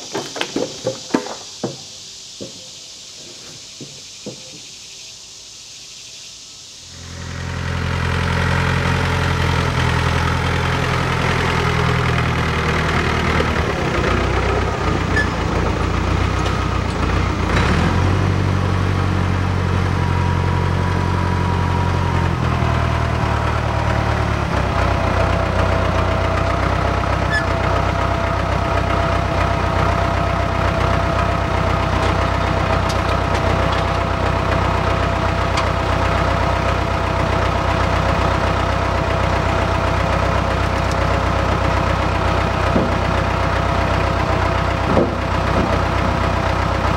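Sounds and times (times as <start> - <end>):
tractor engine running: 6.9 - 46.9.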